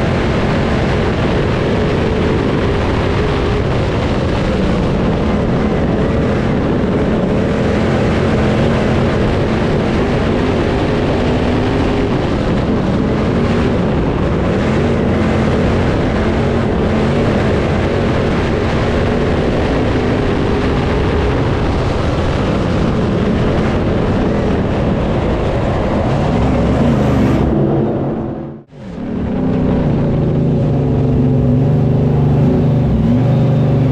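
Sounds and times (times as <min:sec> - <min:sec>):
race car engine revving: 0:00.0 - 0:33.9.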